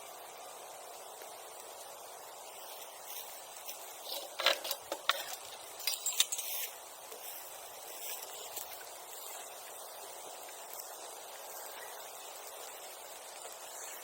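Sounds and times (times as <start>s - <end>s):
embers crackling: 0.2s - 14.0s
fire popping and snapping: 1.1s - 14.0s.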